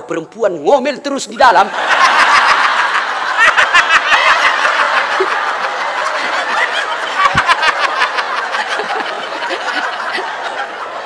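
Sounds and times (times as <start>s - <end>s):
large audience laughing: 1.4s - 11.0s.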